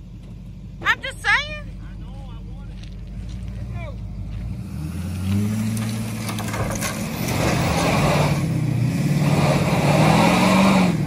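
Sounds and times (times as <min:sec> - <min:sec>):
truck engine pulling under load: 0:00.0 - 0:11.0.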